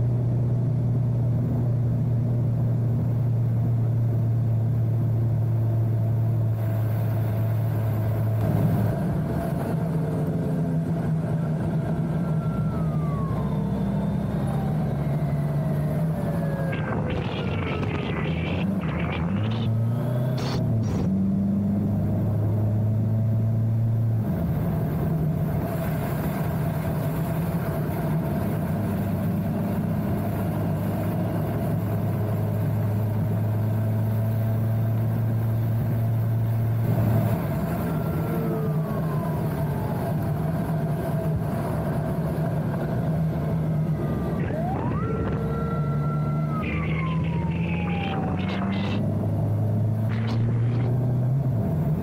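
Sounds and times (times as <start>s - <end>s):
motorcycle engine cruising: 0.0s - 52.0s
motorcycle siren wailing: 7.0s - 21.0s, 23.8s - 52.0s.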